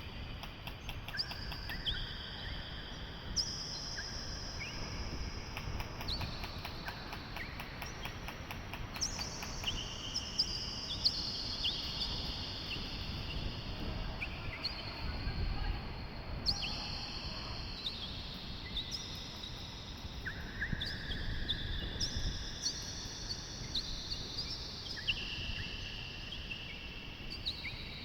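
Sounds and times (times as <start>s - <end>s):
wind on microphone: 0.0s - 28.0s
wild birds chirping: 0.5s - 15.8s, 16.4s - 28.0s.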